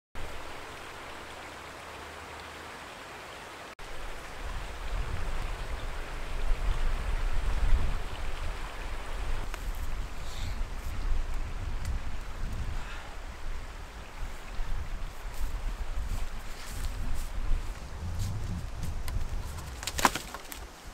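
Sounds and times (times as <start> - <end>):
steady outdoor hiss: 0.2 - 20.9.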